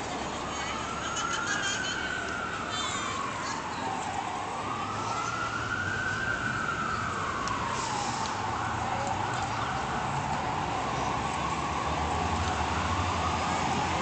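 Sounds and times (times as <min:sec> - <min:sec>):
emergency siren wailing: 0:00.0 - 0:14.0
low rumble of city noise: 0:00.0 - 0:14.0.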